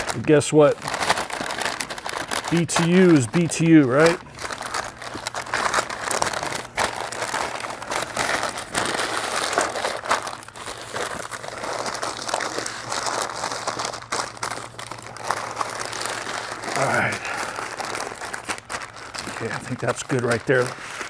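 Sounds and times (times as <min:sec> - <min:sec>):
paper crinkling and rustling: 0:00.0 - 0:21.0.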